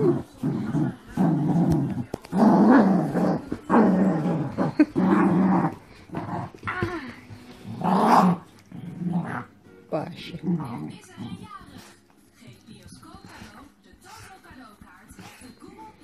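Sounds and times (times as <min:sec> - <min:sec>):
dogs growling: 0:00.0 - 0:16.0.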